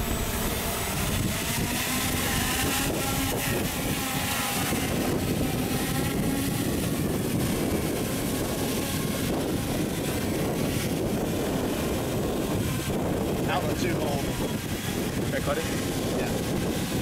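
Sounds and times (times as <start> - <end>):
drone motors buzzing: 0.0 - 17.0
wind noise on microphone: 0.0 - 17.0.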